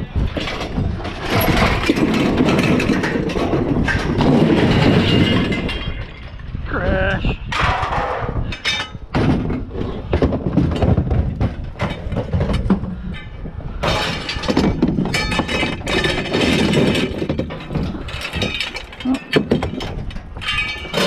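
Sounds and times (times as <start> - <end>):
scrap metal clattering and crashing: 0.0 - 6.6, 7.3 - 21.0.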